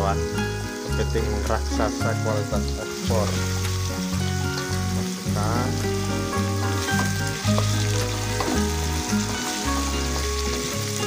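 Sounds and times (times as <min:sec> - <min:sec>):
background music with bass line: 0:00.0 - 0:11.0
crab sizzling in a wok: 0:00.0 - 0:11.0.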